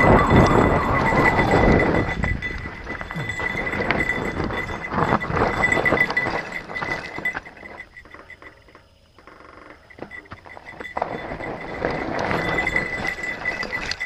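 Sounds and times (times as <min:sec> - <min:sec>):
bike chain and frame rattling: 0:00.0 - 0:14.0
tyres crunching over dirt: 0:00.0 - 0:14.0.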